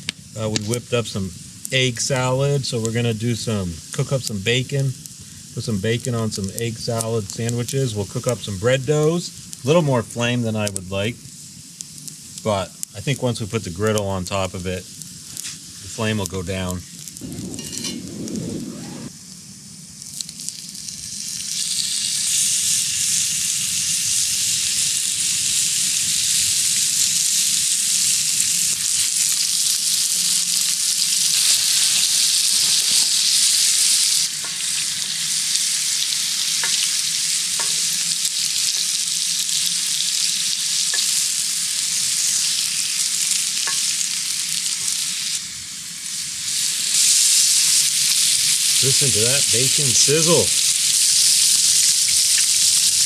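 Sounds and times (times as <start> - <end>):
bacon sizzling on a griddle: 0.0 - 18.0, 19.1 - 53.0.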